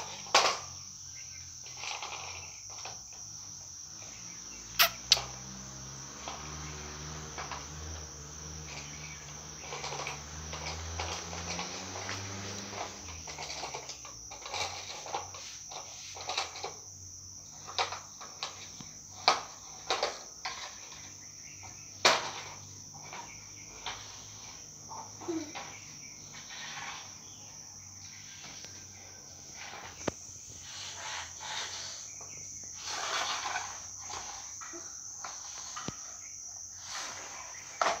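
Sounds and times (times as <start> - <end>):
high insect trill: 0.0 - 38.0
plastic toy scraping on concrete: 0.0 - 38.0.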